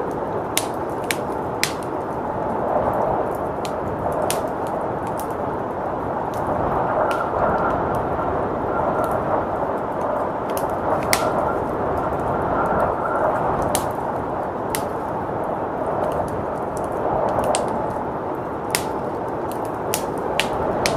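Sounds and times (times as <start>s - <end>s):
blizzard wind roaring: 0.0s - 20.9s
wood fire crackling and popping: 0.0s - 20.9s.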